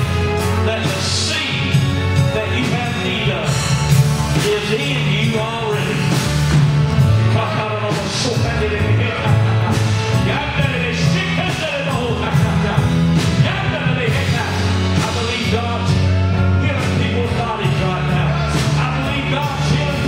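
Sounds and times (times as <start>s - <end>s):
person singing: 0.0s - 6.4s, 7.2s - 20.0s
drum kit: 0.0s - 20.0s
low bass notes: 0.0s - 20.0s.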